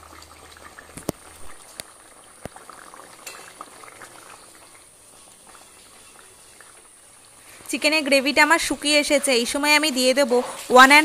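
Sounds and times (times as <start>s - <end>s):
curry bubbling and popping: 0.0s - 11.0s.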